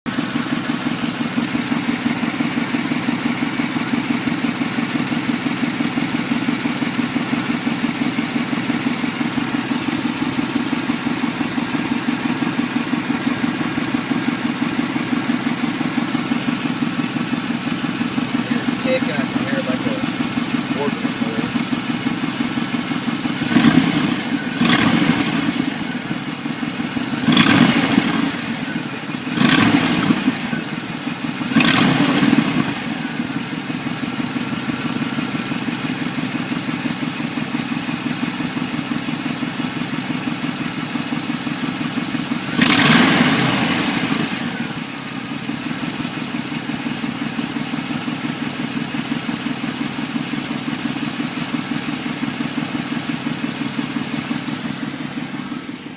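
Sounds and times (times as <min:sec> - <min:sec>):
car engine idling and revving: 0:00.0 - 0:55.9.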